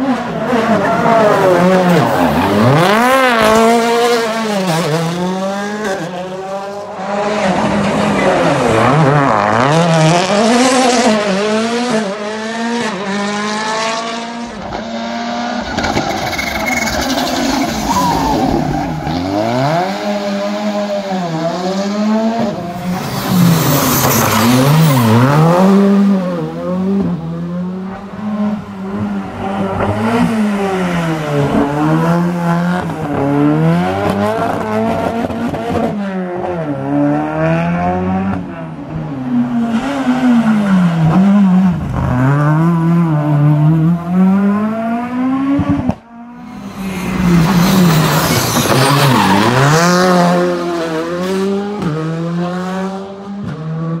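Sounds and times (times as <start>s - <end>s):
rally cars revving past: 0.0s - 54.0s.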